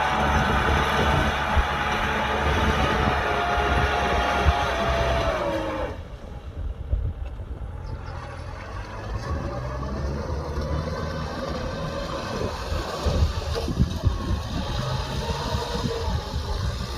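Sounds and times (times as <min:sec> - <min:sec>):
tractor diesel engine rumbling: 0:00.0 - 0:16.9.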